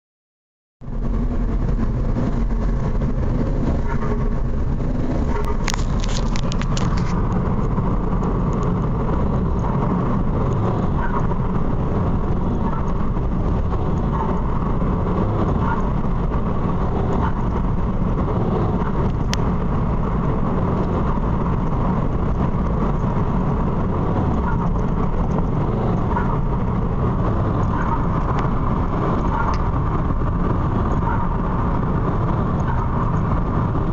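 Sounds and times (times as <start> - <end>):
diesel engine accelerating: 0.8 - 33.9
road and wind noise: 0.8 - 33.9.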